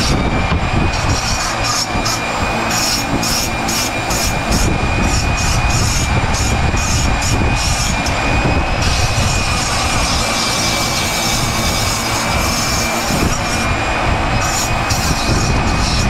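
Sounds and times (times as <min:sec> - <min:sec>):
rotary tool motor whining: 0:00.0 - 0:16.0.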